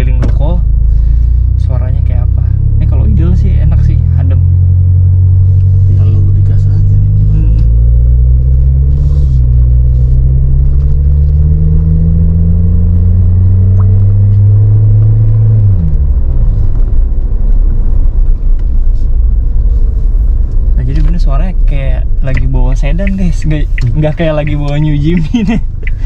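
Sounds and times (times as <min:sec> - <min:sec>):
car engine drone from inside cabin: 0:00.0 - 0:26.0.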